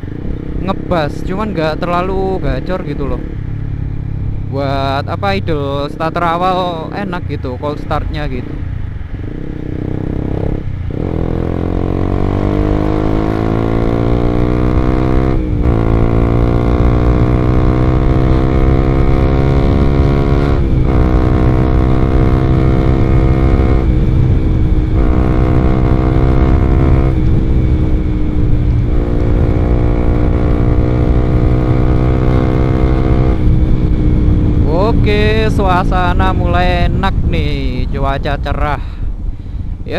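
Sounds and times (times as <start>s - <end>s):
motorcycle engine accelerating: 0.0s - 7.4s, 8.2s - 37.9s.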